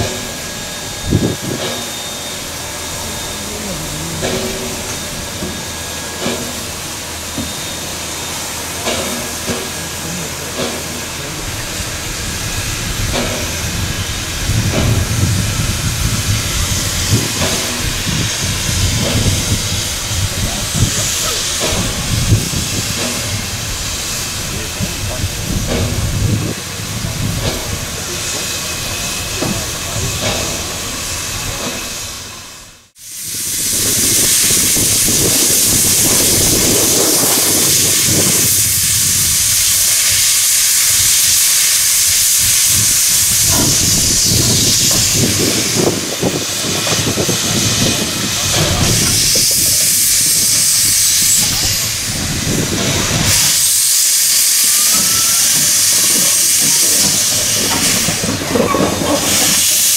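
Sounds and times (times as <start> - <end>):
steam hissing: 0.0 - 59.9.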